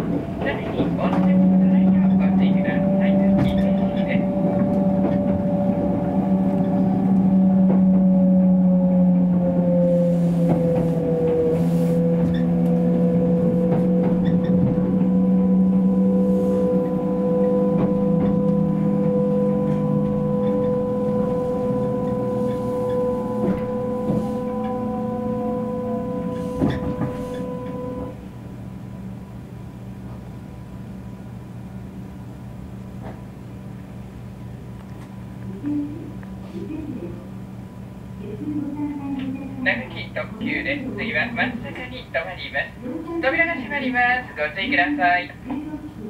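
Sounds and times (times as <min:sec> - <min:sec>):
train drive hum and whine: 0:00.0 - 0:46.0.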